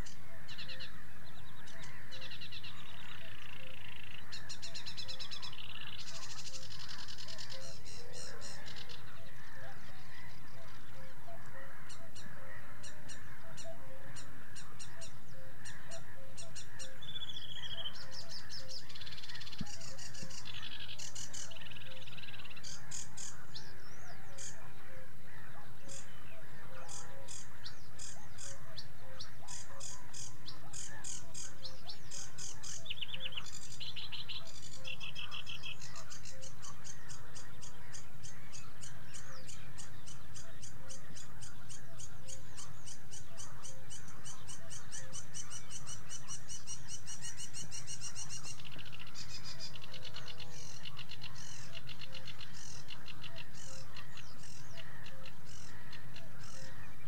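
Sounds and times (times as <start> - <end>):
warbler singing trills: 0.0 - 57.0.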